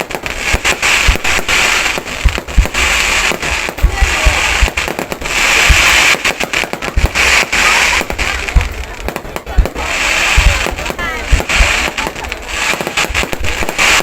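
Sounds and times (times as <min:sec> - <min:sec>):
fireworks bangs and booms: 0:00.0 - 0:14.0
fireworks crackling: 0:00.0 - 0:14.0.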